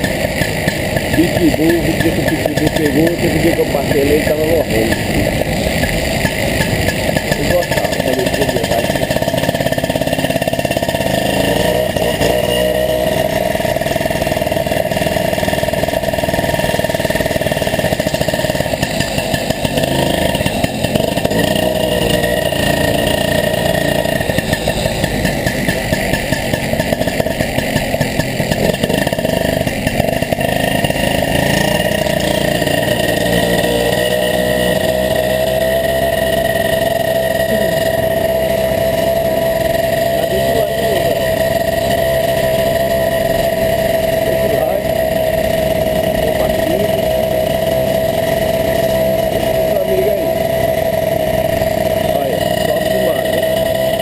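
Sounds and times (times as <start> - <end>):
moped engine running: 0.0 - 54.0.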